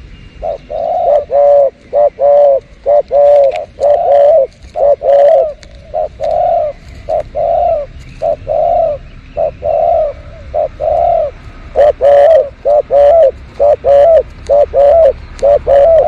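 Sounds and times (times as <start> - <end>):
small birds chirping: 0.0 - 16.0
dove cooing: 0.4 - 16.0.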